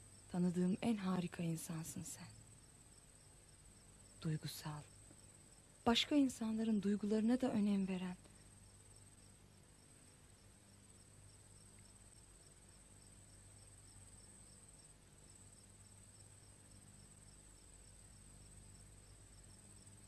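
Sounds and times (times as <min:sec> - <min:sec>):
tape hiss: 0:00.0 - 0:20.0.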